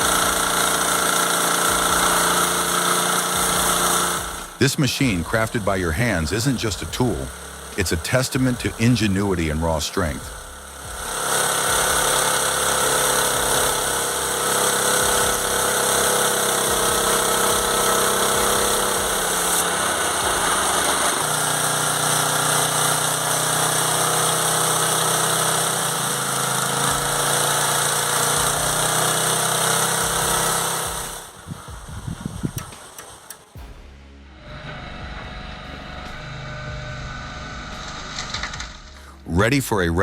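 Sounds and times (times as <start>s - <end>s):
sawmill engine running: 0.0s - 40.0s.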